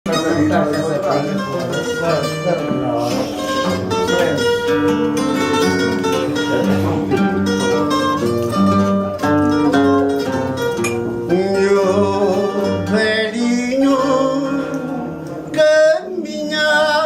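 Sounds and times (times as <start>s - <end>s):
plucked guitar melody: 0.1s - 17.0s
strummed guitar accompaniment: 0.1s - 17.0s.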